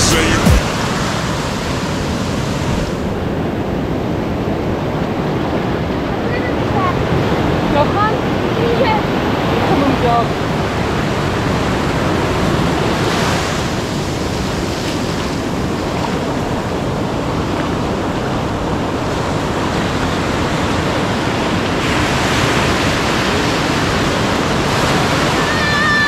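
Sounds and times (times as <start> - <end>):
ocean surf breaking: 0.0 - 26.0.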